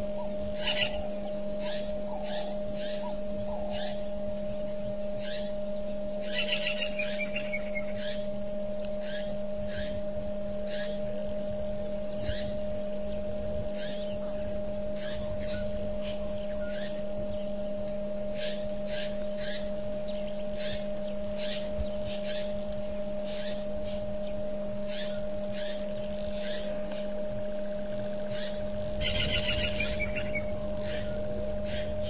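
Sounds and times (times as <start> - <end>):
electrical hum with pitched tone: 0.0 - 32.0.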